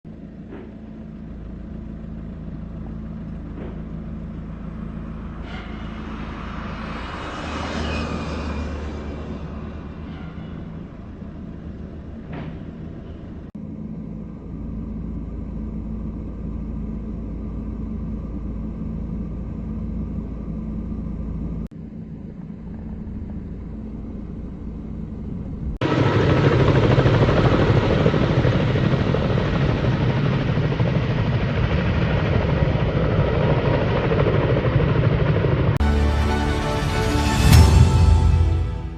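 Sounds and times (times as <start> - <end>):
machine drone with low hum: 0.1 - 38.9.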